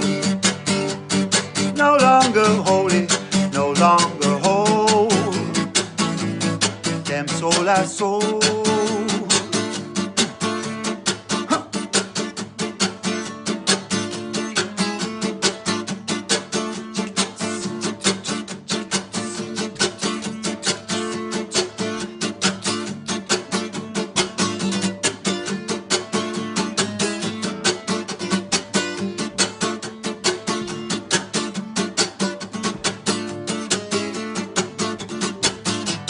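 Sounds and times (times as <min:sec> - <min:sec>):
guitar strumming fast rhythm: 0:00.0 - 0:36.0.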